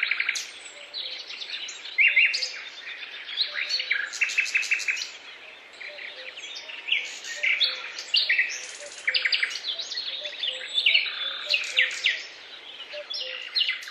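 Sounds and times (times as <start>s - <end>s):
songbirds chirping: 0.0s - 13.9s.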